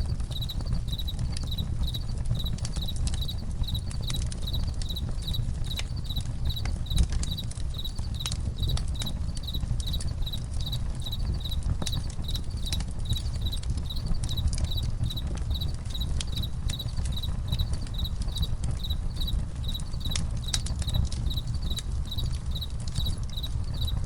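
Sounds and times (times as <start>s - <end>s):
campfire crackling and popping: 0.0s - 24.0s
crickets chirping: 0.0s - 24.0s.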